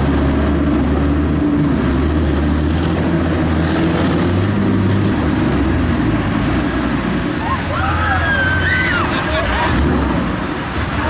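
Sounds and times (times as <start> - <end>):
diesel engine low drone: 0.0 - 11.0.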